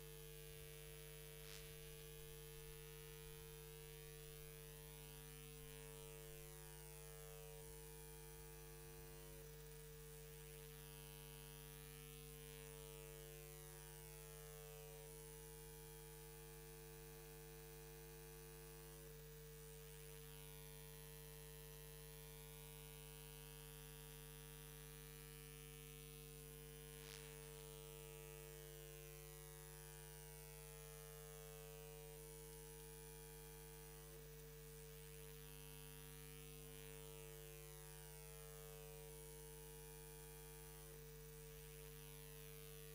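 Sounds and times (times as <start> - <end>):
faint electrical mains hum: 0.0 - 42.9.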